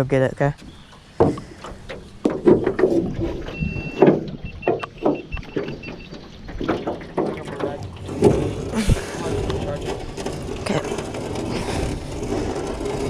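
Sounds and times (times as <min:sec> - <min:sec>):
anchor knocking and scraping: 0:00.6 - 0:13.0.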